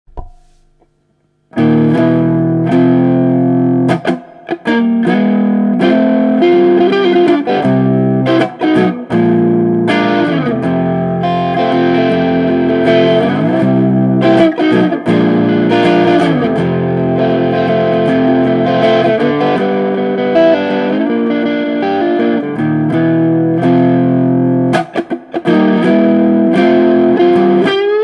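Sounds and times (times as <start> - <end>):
overdriven electric guitar chords: 1.5 - 28.0.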